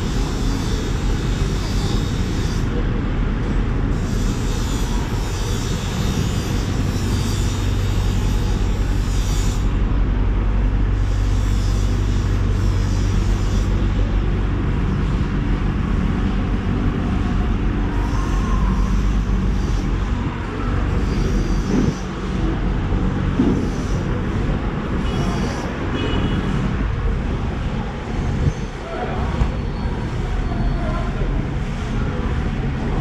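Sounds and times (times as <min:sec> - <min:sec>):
low rumbling drone: 0:00.0 - 0:28.7.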